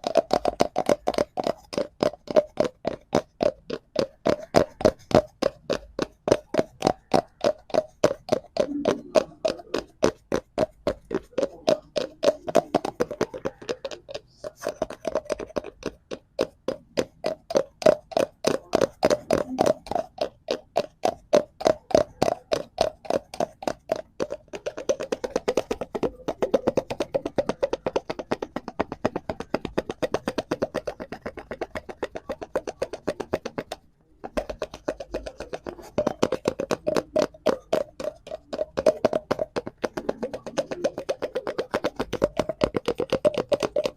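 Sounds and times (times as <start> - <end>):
fingers tapping on cardboard: 0.0 - 43.9.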